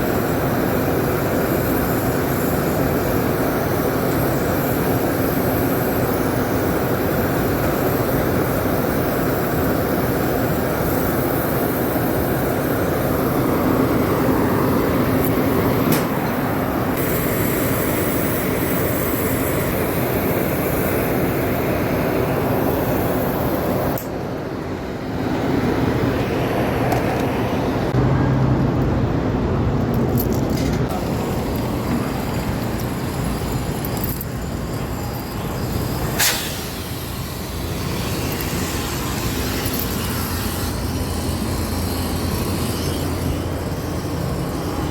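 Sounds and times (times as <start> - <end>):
air-conditioning machinery running: 0.0 - 44.9.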